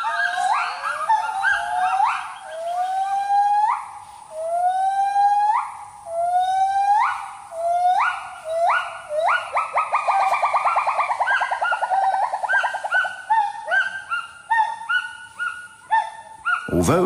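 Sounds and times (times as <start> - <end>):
gibbons whooping calls: 0.0 - 17.0.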